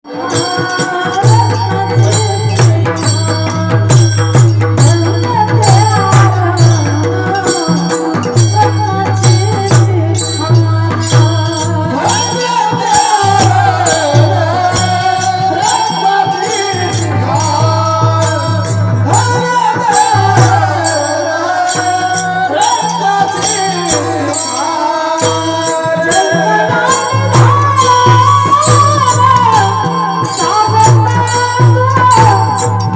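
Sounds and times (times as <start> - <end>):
person singing: 0.0 - 32.9
small hand cymbals: 0.1 - 32.9.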